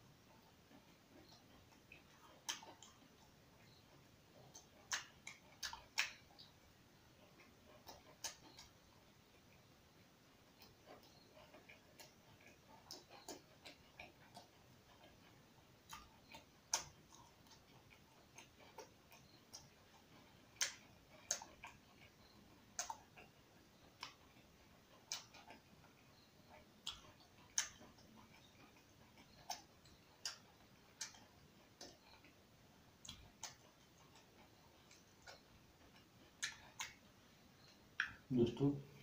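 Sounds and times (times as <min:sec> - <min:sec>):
person chewing food: 0:00.1 - 0:38.4.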